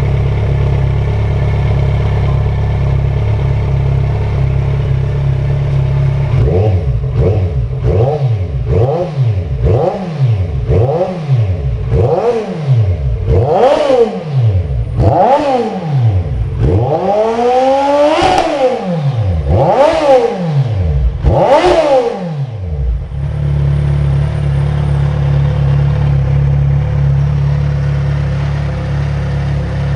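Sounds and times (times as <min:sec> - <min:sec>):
motorcycle engine idling: 0:00.0 - 0:29.9
motorcycle engine revving: 0:00.0 - 0:29.9.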